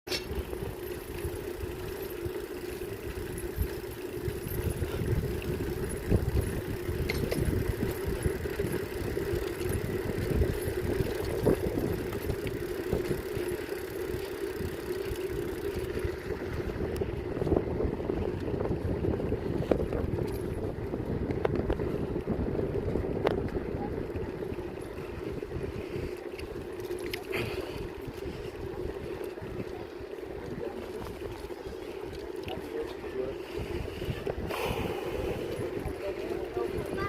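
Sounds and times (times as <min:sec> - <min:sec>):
wind rumbling on microphone: 0:00.1 - 0:37.0.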